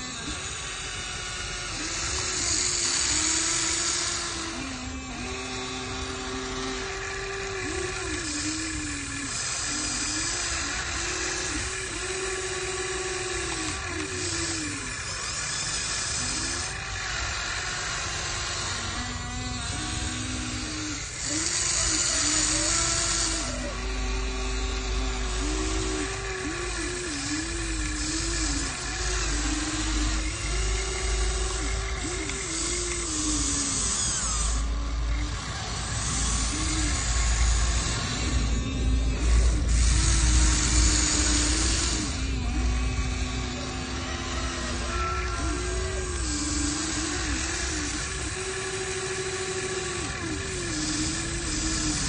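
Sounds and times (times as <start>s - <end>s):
toy electric motors whining: 0.0s - 52.0s.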